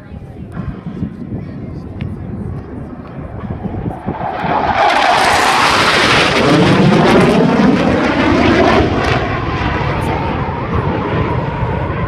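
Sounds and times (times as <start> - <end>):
airplane passing close: 0.0 - 12.0.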